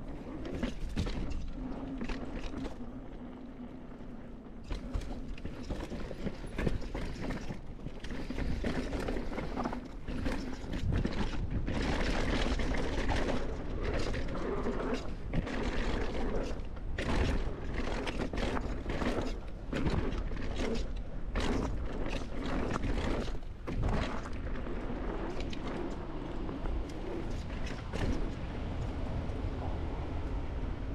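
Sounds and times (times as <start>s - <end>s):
bike knocking and rattling: 0.0s - 29.5s
bike tyre noise: 0.0s - 30.9s
wind buffeting microphone: 0.0s - 30.9s.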